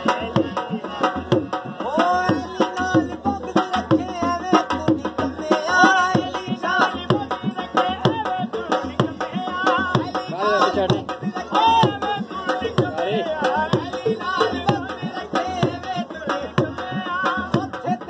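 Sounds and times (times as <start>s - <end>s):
fast hand-drum strokes: 0.0s - 18.0s.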